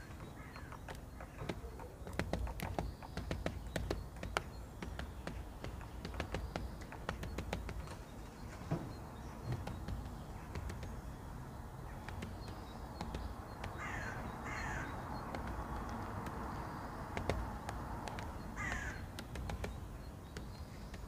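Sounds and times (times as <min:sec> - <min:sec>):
harsh bird calls: 0:00.0 - 0:21.0
woodpecker tapping on wire mesh: 0:00.0 - 0:21.0.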